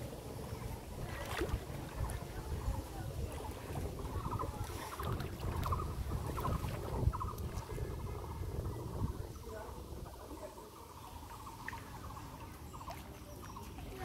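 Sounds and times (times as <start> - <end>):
water sloshing and dripping: 0.0 - 14.0.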